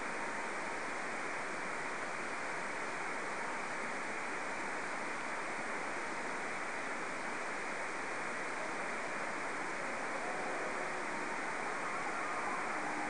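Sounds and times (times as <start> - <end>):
shortwave static hiss: 0.0 - 13.0.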